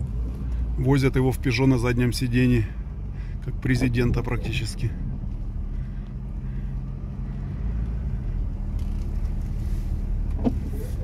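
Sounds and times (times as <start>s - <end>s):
car engine humming: 0.0s - 11.0s
road rumble: 0.0s - 11.0s.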